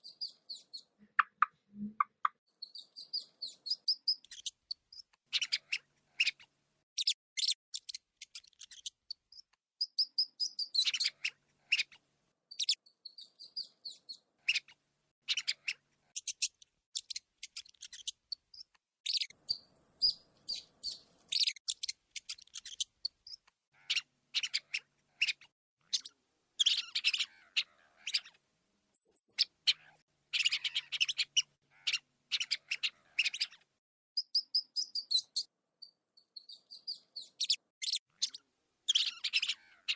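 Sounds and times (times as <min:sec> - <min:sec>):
rats squeaking: 0:00.0 - 0:28.4, 0:29.0 - 0:33.6, 0:34.2 - 0:39.9.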